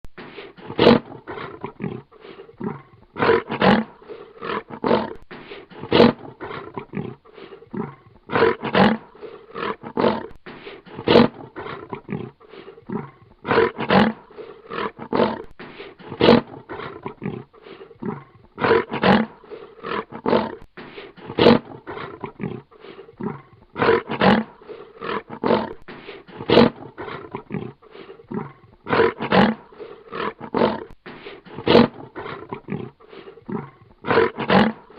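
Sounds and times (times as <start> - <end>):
lion roaring and grunting: 0.6 - 20.6, 21.2 - 34.9.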